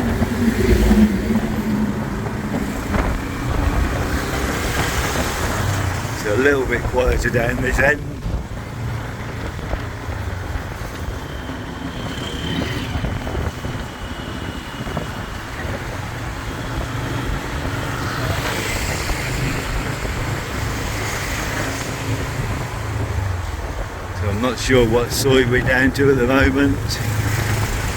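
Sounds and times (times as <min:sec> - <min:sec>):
motorbike engine rumble: 0:00.0 - 0:27.9
passing traffic: 0:00.0 - 0:27.9.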